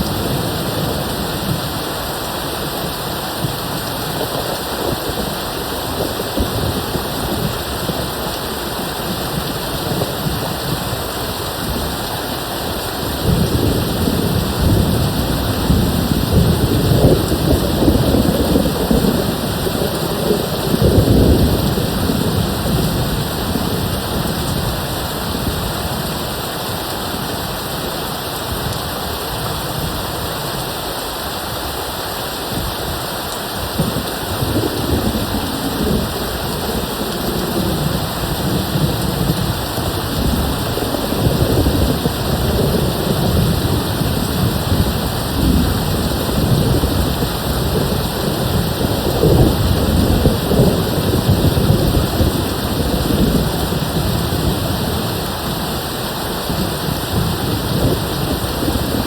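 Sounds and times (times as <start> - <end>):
distant thunder rumbling: 0.0 - 30.4, 33.6 - 59.0
rain hissing: 0.0 - 59.0.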